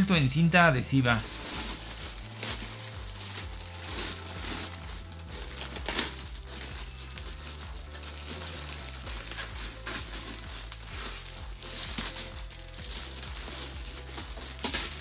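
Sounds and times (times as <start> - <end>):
background music: 0.0 - 15.0
cellophane crinkling: 0.0 - 15.0.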